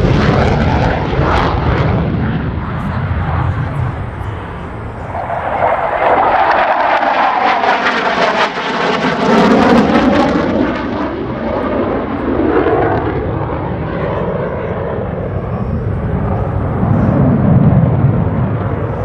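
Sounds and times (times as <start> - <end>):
fighter jet flying past: 0.0 - 19.0.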